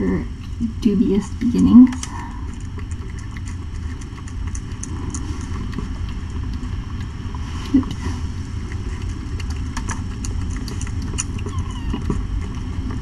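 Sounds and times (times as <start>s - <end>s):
cat purring: 0.0s - 13.0s
cat eating wet clicks: 0.4s - 13.0s.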